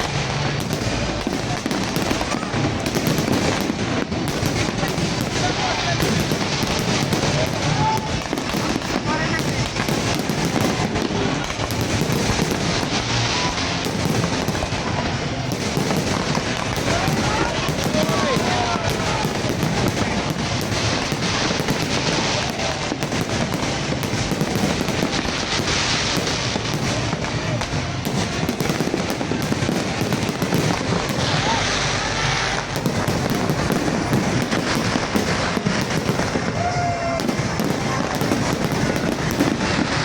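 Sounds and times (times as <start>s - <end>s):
firework hissing burst: 0.0s - 40.0s
fireworks bangs and crackles: 0.0s - 40.0s.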